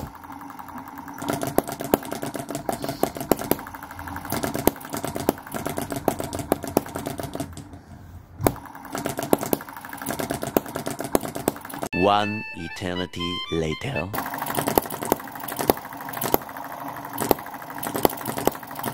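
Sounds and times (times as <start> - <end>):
small petrol engine clattering: 0.0 - 11.9, 14.2 - 18.9.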